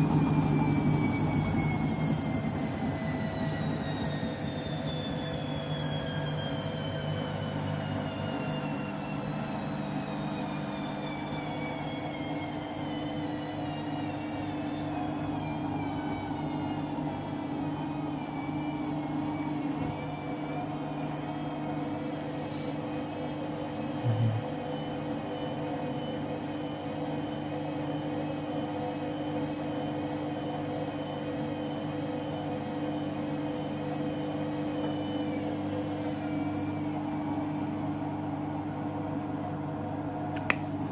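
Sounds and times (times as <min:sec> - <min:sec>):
washing machine motor hum: 0:00.0 - 0:40.9.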